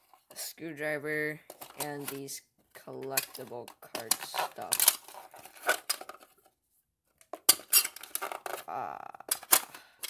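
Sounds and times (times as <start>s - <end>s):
plastic parts clicking and clattering: 1.4s - 10.0s.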